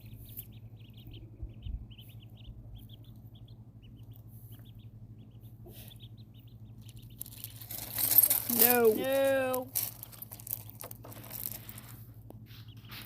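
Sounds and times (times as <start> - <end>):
ducklings peeping: 0.0 - 7.9, 8.6 - 13.0
steady low hum: 0.0 - 13.0.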